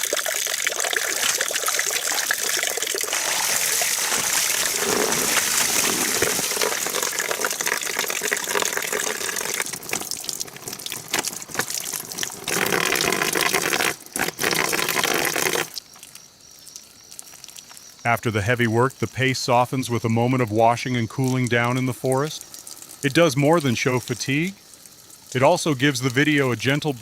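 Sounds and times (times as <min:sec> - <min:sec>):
water pouring and splashing: 0:00.0 - 0:16.2, 0:20.3 - 0:27.0.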